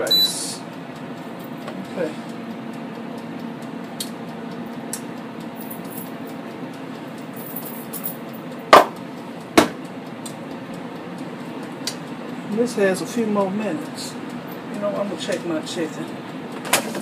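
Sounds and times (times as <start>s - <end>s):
air fryer fan humming: 0.0s - 17.0s.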